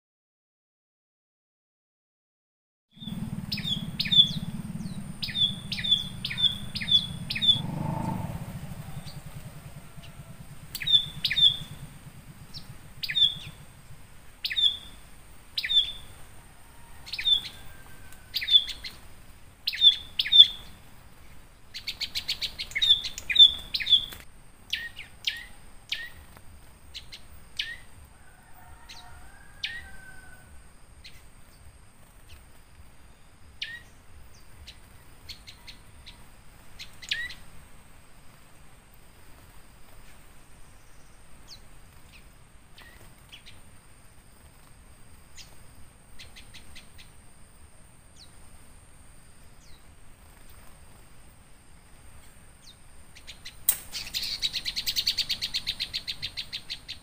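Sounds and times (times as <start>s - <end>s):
songbird chirping: 3.0s - 57.0s.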